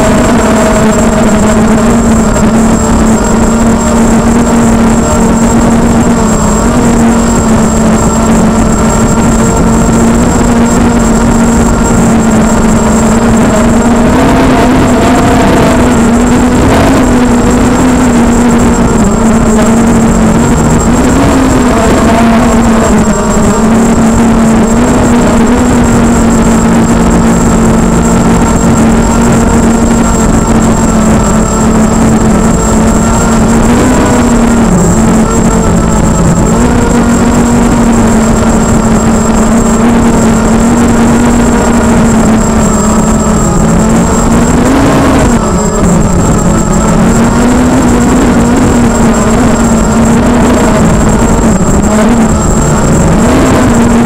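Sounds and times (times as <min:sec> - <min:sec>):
drone propellers buzzing: 0:00.0 - 0:54.0
thin high whine: 0:00.0 - 0:54.0.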